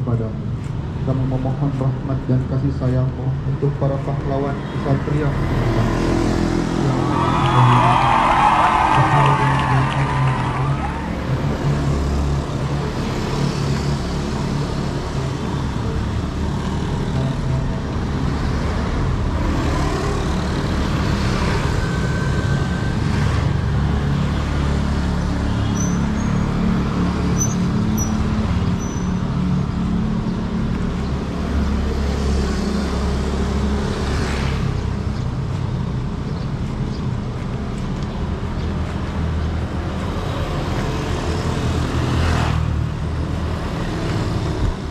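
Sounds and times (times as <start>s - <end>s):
low road noise rumble: 0.0s - 44.9s
vehicles passing: 0.0s - 44.9s.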